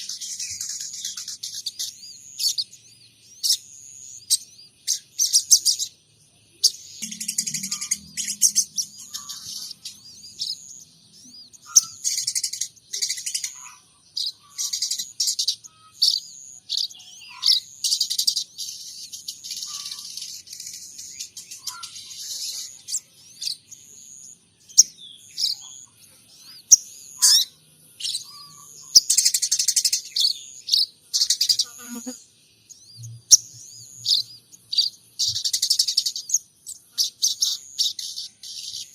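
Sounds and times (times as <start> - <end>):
songbird chirping and twittering: 0.0 - 38.9.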